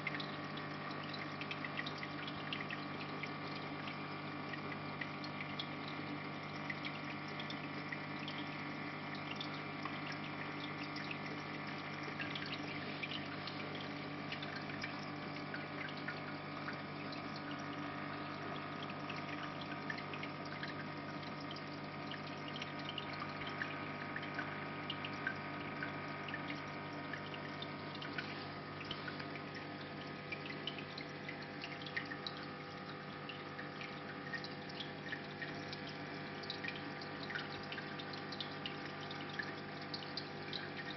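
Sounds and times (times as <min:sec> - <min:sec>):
aquarium pump hum: 0:00.0 - 0:40.9
trickling water with drips: 0:00.0 - 0:40.9.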